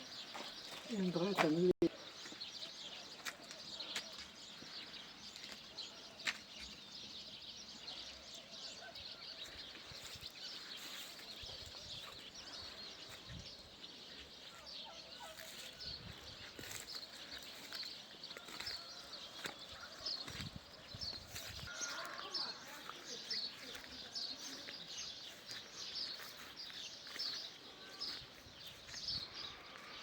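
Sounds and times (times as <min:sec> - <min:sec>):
faint outdoor background: 0:00.0 - 0:30.0
small birds chirping: 0:00.0 - 0:30.0.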